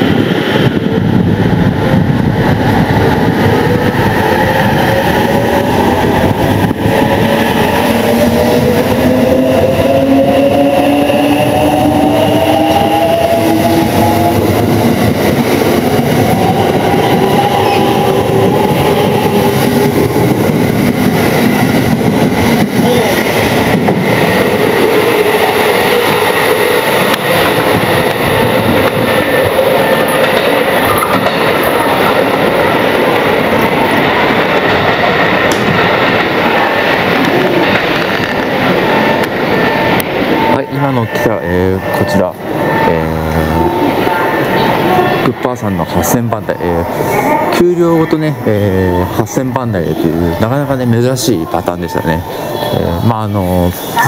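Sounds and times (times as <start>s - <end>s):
train wheel and rail noise: 0.0s - 54.0s
electric train motor whine: 0.8s - 45.3s.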